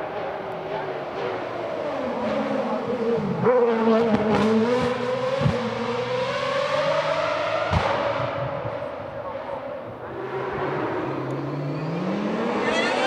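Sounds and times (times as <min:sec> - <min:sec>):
race car engine accelerating: 0:00.1 - 0:13.0.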